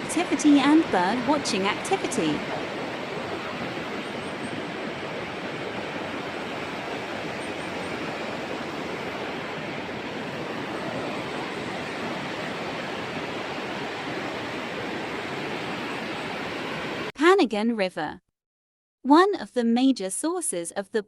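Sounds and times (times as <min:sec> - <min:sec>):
river water rushing: 0:00.0 - 0:17.1.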